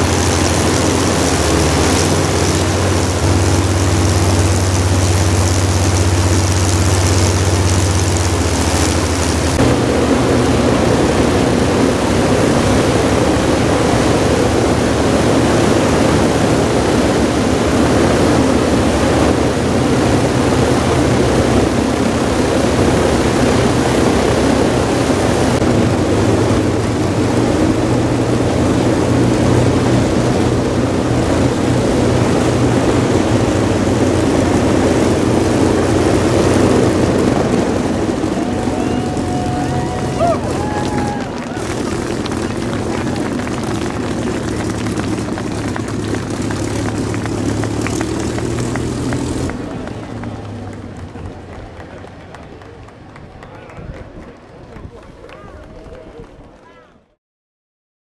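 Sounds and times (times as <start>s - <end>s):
aircraft engines droning: 0.0s - 56.4s.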